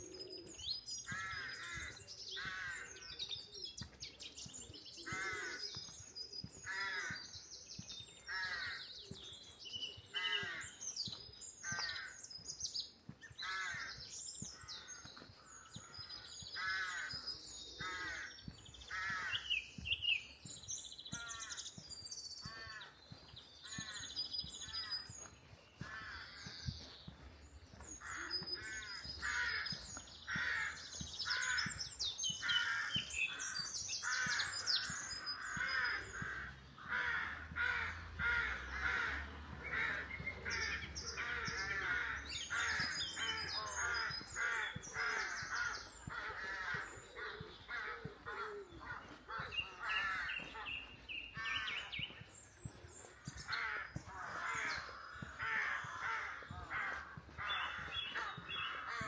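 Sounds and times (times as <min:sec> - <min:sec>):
songbirds chirping and trilling: 0:00.0 - 0:59.0
crows cawing: 0:00.3 - 0:03.3, 0:05.0 - 0:12.6, 0:13.2 - 0:19.9, 0:20.5 - 0:59.0.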